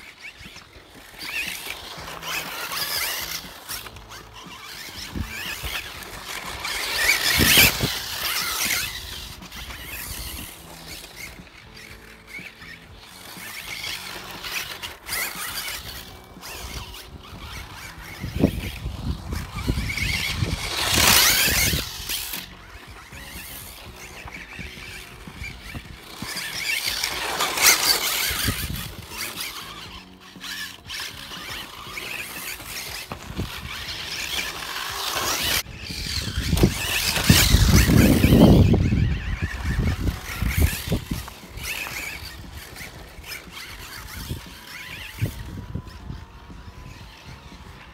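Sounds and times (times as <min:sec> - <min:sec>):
rc car motor whining: 0:00.0 - 0:47.9
tyres scrabbling over gravel: 0:00.0 - 0:47.9.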